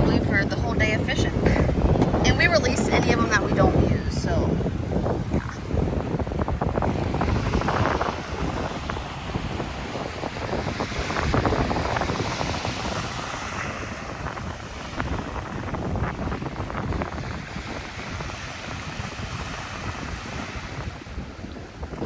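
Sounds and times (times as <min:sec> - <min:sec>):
surf washing: 0:00.0 - 0:22.0
wind buffeting microphone: 0:00.0 - 0:22.0.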